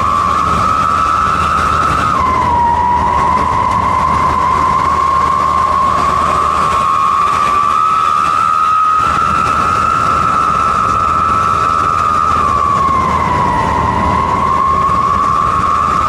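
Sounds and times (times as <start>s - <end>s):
engine rumble: 0.0s - 16.0s
whistling exhaust tone: 0.0s - 16.0s.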